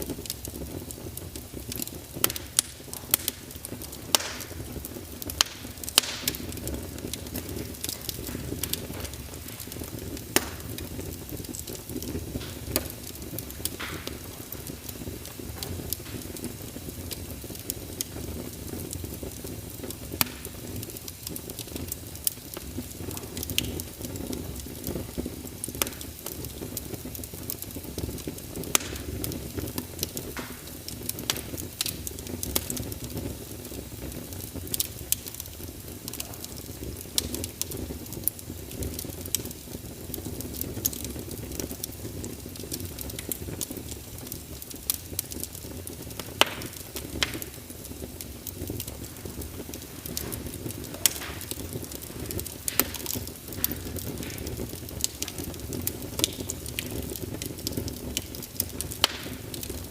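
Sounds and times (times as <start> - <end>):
fire pops and snaps: 0.0 - 59.9
rush of flames: 0.0 - 59.9.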